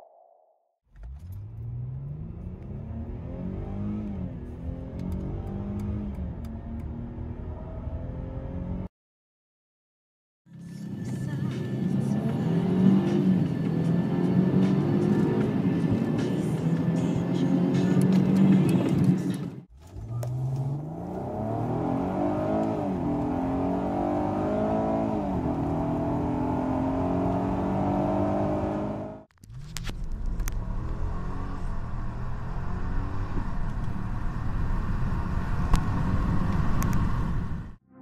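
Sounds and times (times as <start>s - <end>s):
car engine accelerating hard: 1.0s - 8.9s, 11.6s - 29.3s, 29.9s - 37.8s.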